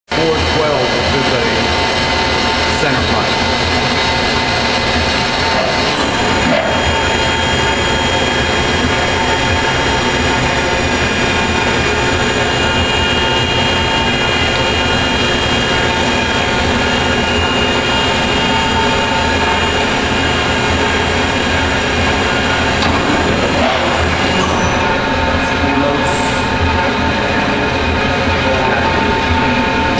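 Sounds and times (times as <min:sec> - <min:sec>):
high machine whines: 0:00.1 - 0:29.9
lathe mechanical hum: 0:00.1 - 0:29.9.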